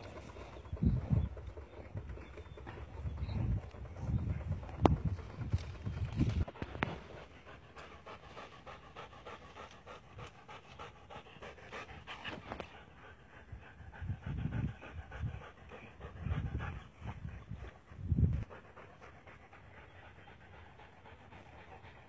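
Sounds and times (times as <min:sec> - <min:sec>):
dog panting rapidly: 0:00.0 - 0:22.0.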